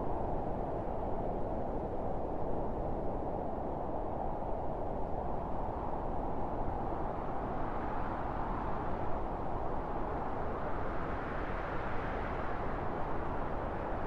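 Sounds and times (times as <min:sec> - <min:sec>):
wind blowing steadily: 0:00.0 - 0:14.0.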